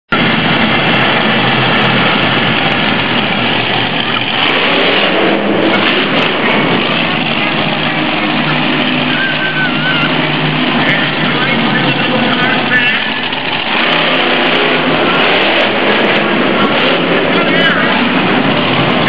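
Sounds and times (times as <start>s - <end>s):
truck engines revving: 0.1s - 19.0s.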